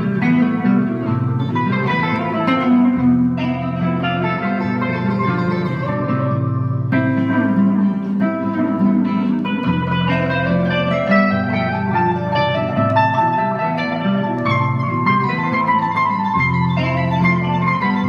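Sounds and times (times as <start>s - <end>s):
bass line: 0.0s - 18.0s
plucked acoustic guitar melody: 0.0s - 18.0s.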